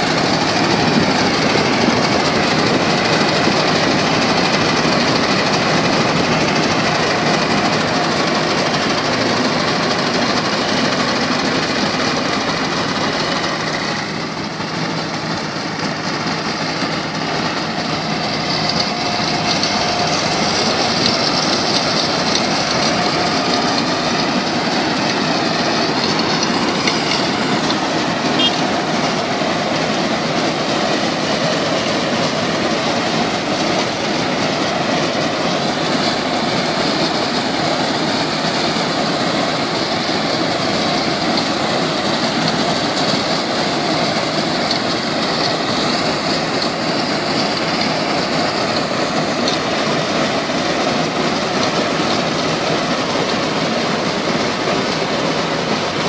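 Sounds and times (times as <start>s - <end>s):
combine harvester diesel engine: 0.0s - 56.0s
dense mechanical rattle: 0.0s - 56.0s.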